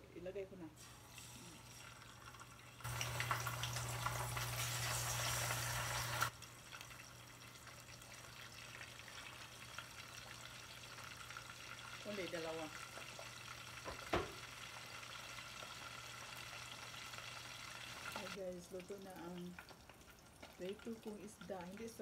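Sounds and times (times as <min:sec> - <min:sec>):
hot oil sizzling: 0:00.8 - 0:22.0.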